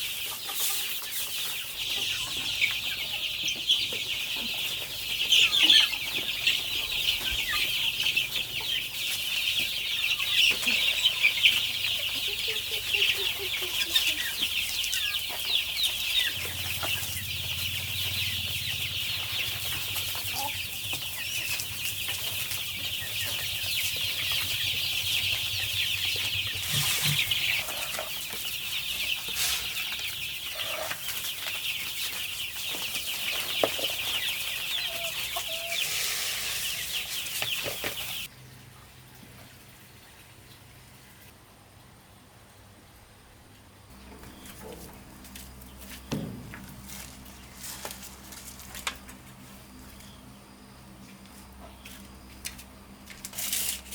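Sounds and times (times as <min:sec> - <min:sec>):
chickens chirping and peeping: 0:00.0 - 0:53.9.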